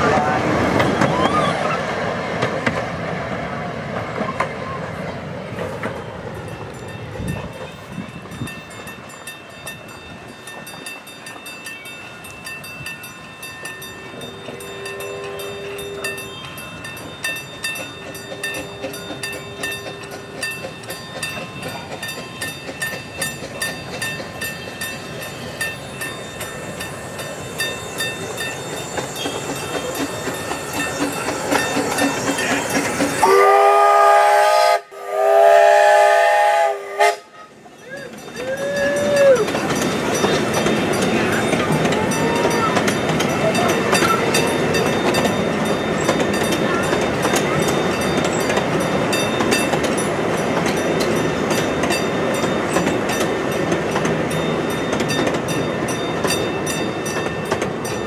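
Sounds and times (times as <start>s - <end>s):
small steam train clicking past: 0.0s - 58.0s.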